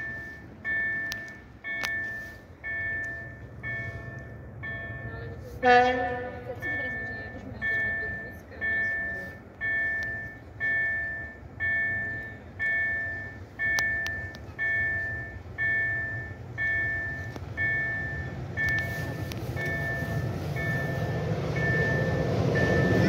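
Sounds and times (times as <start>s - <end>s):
railway warning bell ringing: 0.0s - 23.0s
train rumble: 0.0s - 23.0s.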